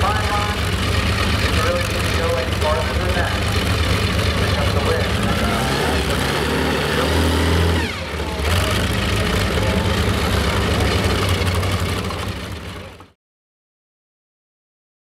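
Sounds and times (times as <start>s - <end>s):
tractor engines idling: 0.0s - 13.2s.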